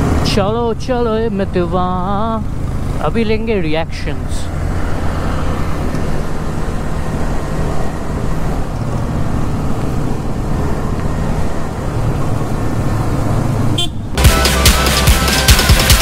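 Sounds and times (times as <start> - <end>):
motorcycle engine hum: 0.0 - 16.0.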